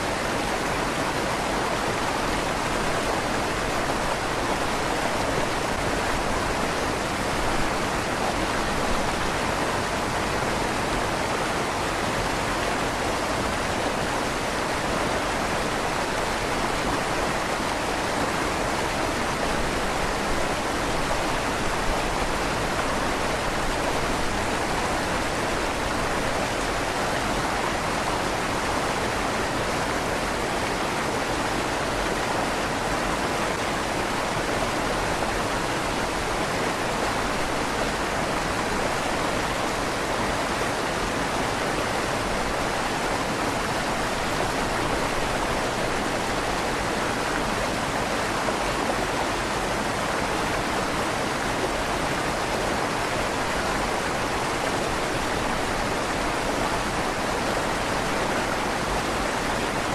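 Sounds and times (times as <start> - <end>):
river water rushing in tunnel: 0.0 - 59.9.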